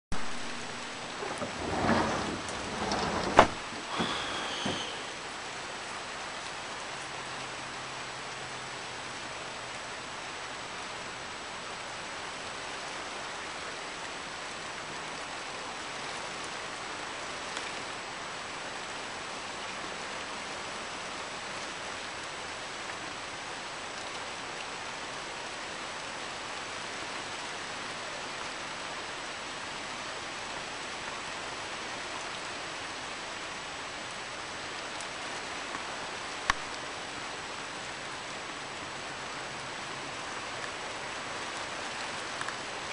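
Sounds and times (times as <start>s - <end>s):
rain on foliage: 0.1s - 42.9s.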